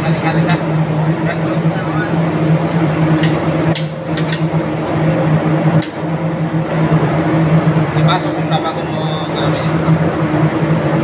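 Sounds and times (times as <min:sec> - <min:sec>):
engine-room machinery drone: 0:00.0 - 0:11.0.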